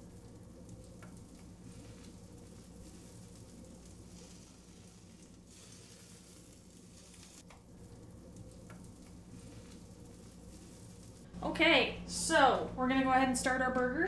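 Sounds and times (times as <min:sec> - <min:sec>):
buns sizzling in frying pan: 0:00.0 - 0:11.4.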